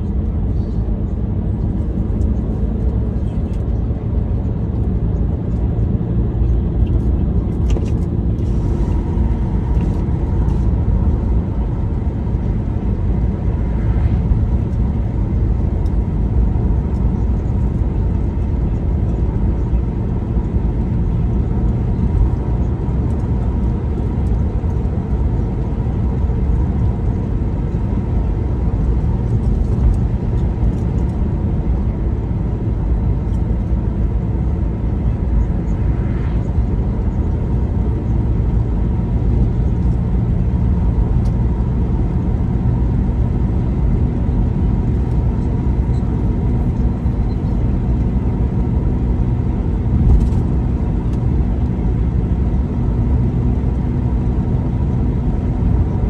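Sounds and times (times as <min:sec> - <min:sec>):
car driving road noise: 0:00.0 - 0:56.0.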